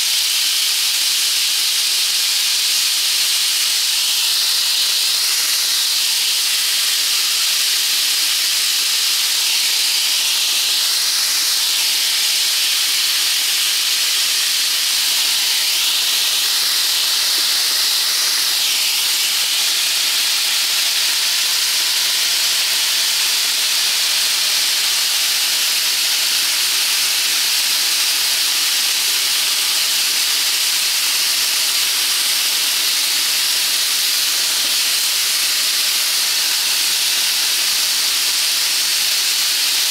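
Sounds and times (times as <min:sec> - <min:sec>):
chicken sizzling on a grill: 0:00.0 - 0:39.9.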